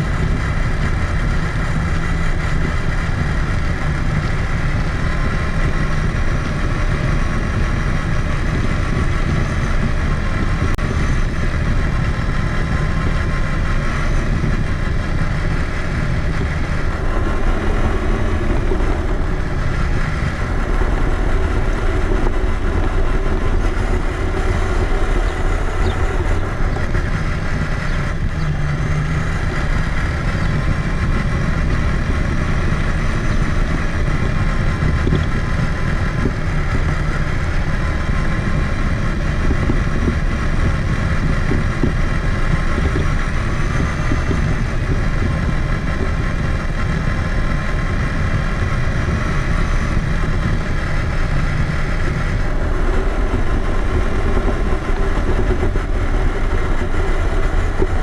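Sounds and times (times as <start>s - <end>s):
electric motor and gears whining: 0.0s - 58.0s
low rumble and rattle: 0.0s - 58.0s.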